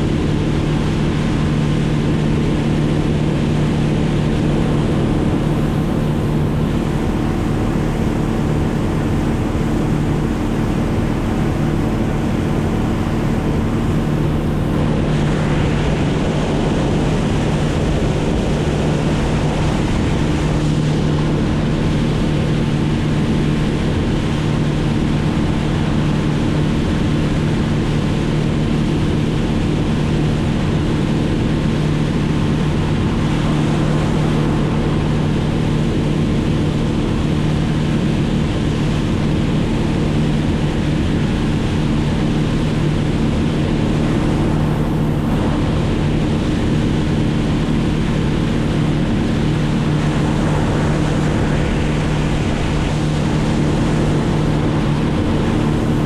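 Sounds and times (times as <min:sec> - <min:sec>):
motor droning steadily: 0:00.0 - 0:56.0
rush of wind or water: 0:00.0 - 0:56.0.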